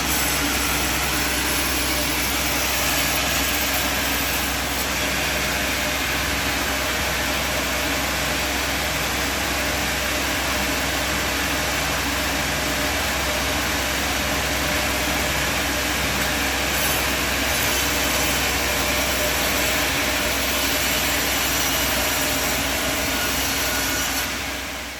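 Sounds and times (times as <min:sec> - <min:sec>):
sawmill machinery running: 0:00.0 - 0:24.9.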